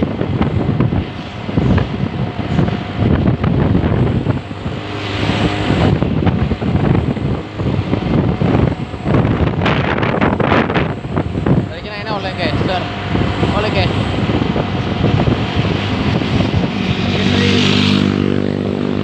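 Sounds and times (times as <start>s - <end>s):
trucks diesel engines passing: 0.0s - 19.0s
wind buffeting microphone: 0.0s - 19.0s.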